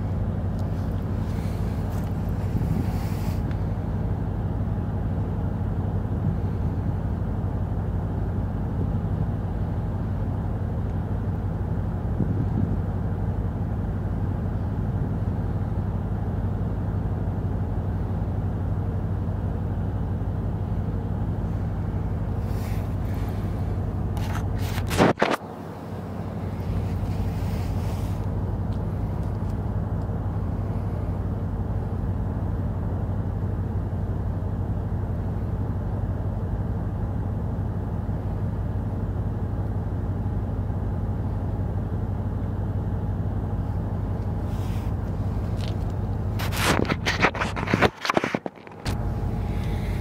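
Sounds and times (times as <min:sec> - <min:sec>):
low diesel hum: 0:00.0 - 0:50.0.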